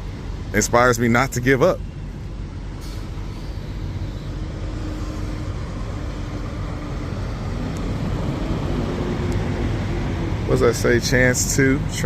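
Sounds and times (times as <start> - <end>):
diesel trucks idling: 0.0 - 12.0.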